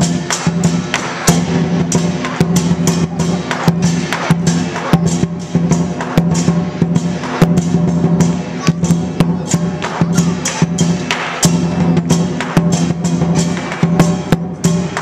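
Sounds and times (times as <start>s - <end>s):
cymbals clashing: 0.0s - 15.0s
large drum beating: 0.0s - 15.0s.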